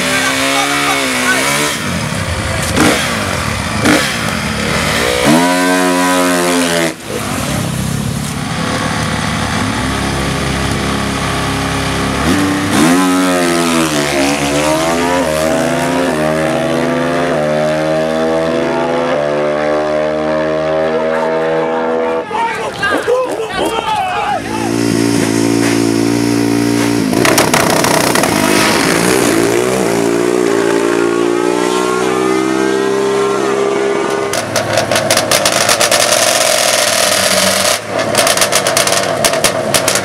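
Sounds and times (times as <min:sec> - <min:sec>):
drag racing engine revving: 0:00.0 - 0:22.2, 0:24.4 - 0:40.0.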